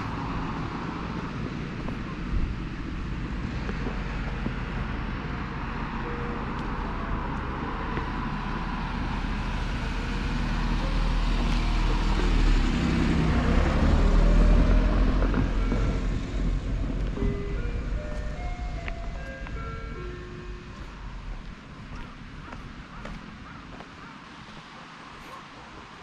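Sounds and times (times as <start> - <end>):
vehicle driving past: 0.0 - 23.8.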